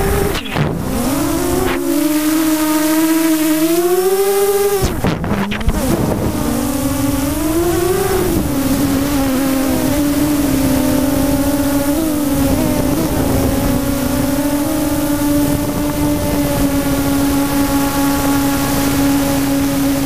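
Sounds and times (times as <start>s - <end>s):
model aircraft motor buzzing: 0.0s - 20.0s.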